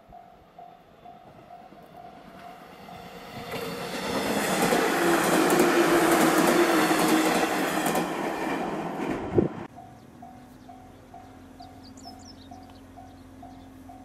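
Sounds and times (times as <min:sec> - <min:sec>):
train motor hum: 0:00.0 - 0:14.0.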